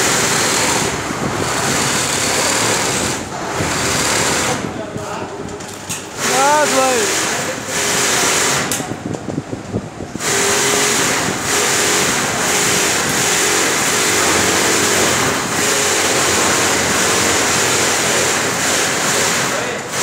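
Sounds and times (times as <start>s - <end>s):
workshop machinery whirring and rattling: 0.0s - 20.0s.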